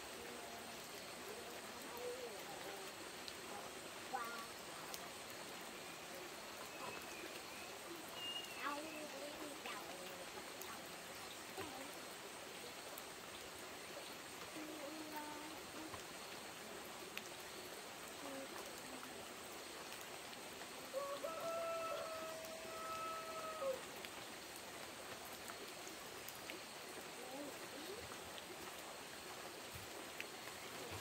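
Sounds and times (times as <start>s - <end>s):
steady outdoor hiss: 0.0s - 31.0s.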